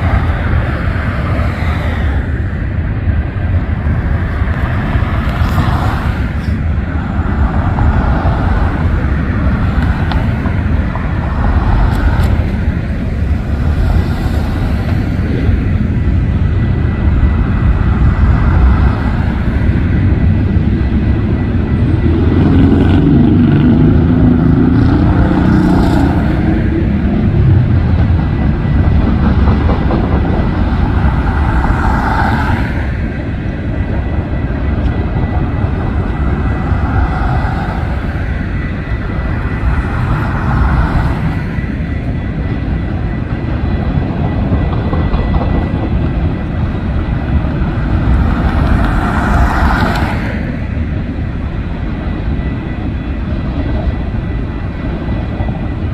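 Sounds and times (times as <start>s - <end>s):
train rumbling past: 0.0s - 55.9s.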